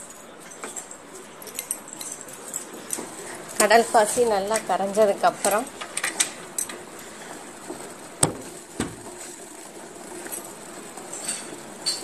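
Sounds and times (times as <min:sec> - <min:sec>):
liquid boiling in a pan: 0:01.2 - 0:12.0.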